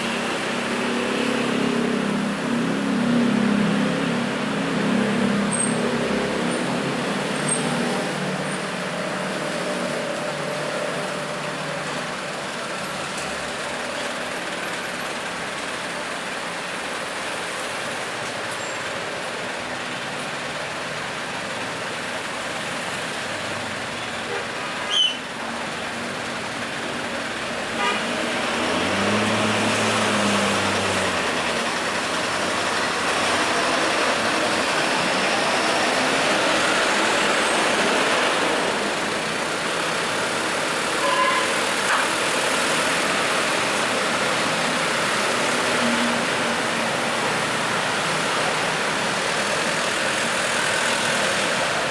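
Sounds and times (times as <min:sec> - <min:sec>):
passing road traffic: 0:00.0 - 0:51.9.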